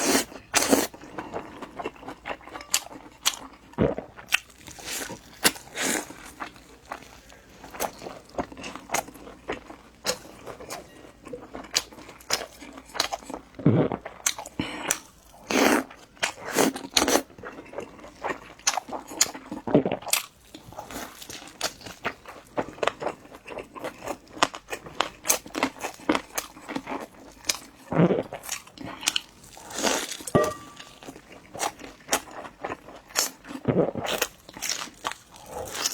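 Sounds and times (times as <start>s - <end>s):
crunchy chewing of crisp food: 0.0s - 35.9s.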